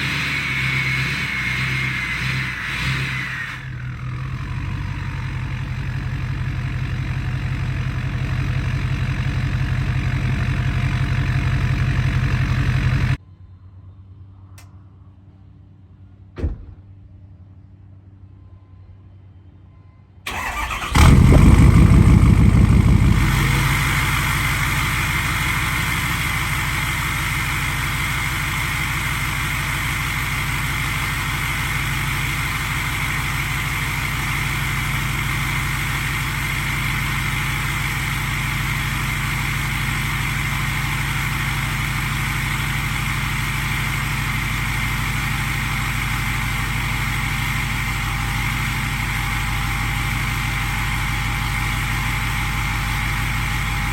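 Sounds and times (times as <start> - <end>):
diesel engine starting and idling: 0.0 - 13.2, 20.3 - 53.9.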